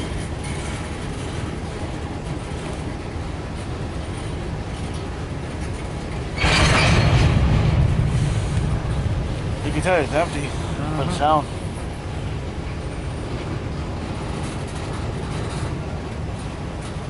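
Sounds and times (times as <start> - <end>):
freight train cars rumbling: 0.0 - 17.0
train cars rattling clatter: 0.0 - 17.0.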